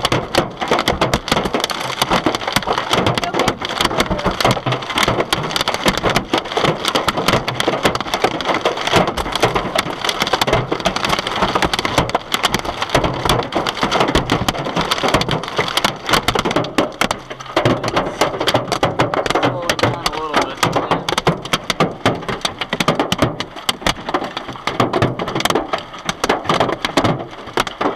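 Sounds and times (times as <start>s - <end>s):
hail pounding a car: 0.0s - 27.9s.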